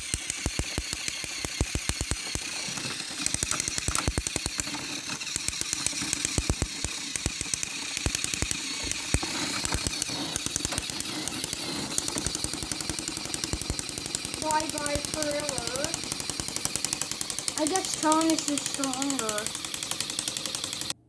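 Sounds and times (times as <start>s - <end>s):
toy train motor clicking rattle: 0.0s - 21.0s.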